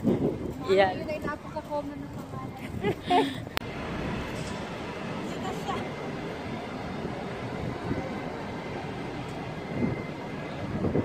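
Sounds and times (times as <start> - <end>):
city ambience with low rumble: 0.0 - 11.0.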